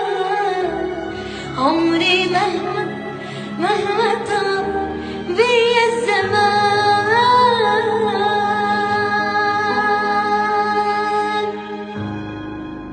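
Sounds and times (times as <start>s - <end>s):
woman singing: 0.0s - 11.9s
instrumental backing: 0.0s - 12.9s.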